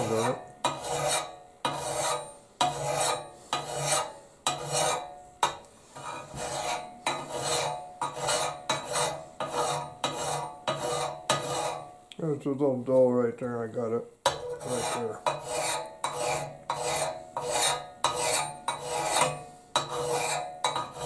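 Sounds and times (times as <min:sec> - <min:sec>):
steel file rasping on axe: 0:00.0 - 0:11.9, 0:14.3 - 0:21.0.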